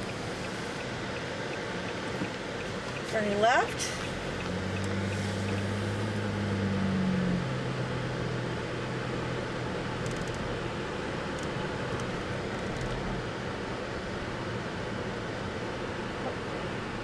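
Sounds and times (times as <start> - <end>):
car engine drone: 0.0 - 17.0
road rumble: 0.0 - 17.0.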